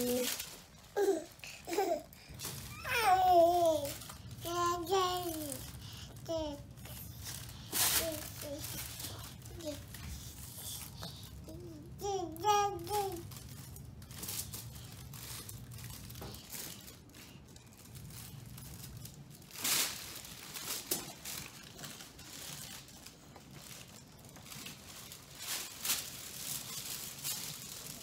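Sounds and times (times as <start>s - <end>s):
paper crinkling: 0.0s - 28.0s.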